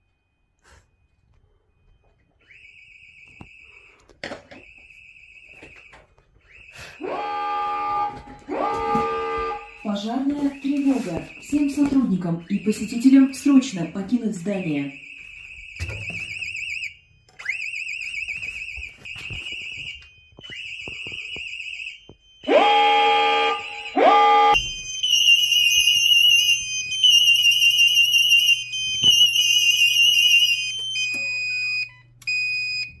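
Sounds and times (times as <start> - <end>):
steady alarm beeps: 0.0 - 33.0
warbling fire alarm siren: 0.0 - 33.0
rising siren whoops: 4.7 - 31.3.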